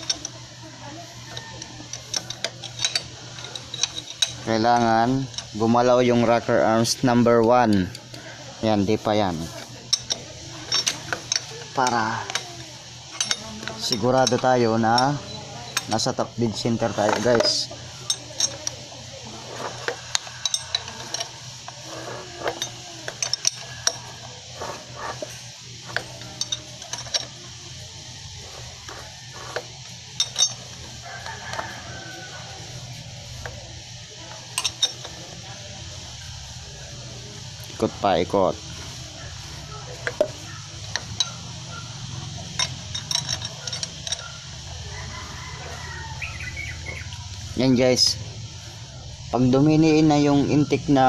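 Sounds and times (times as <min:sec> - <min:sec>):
wrench clinking on metal: 0:00.0 - 0:48.2
steady low hum: 0:00.0 - 0:51.0.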